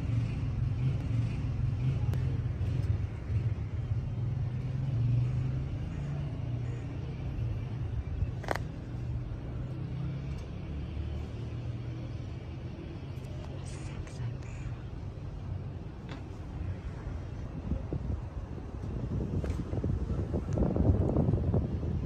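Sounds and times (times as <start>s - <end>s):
low vehicle rumble: 0.0s - 22.0s.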